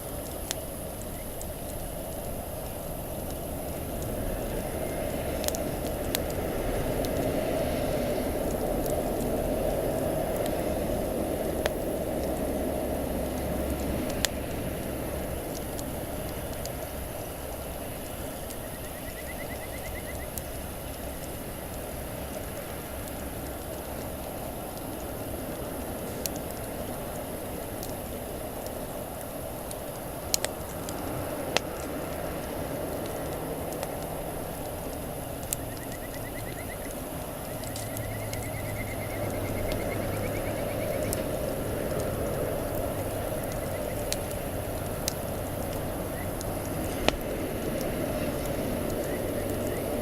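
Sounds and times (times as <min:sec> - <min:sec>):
campfire burning and crackling: 0:00.0 - 0:50.0.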